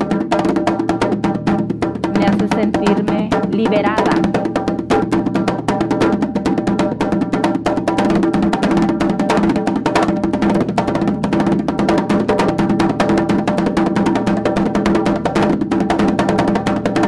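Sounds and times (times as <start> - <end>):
fast hand drumming: 0.0 - 17.0.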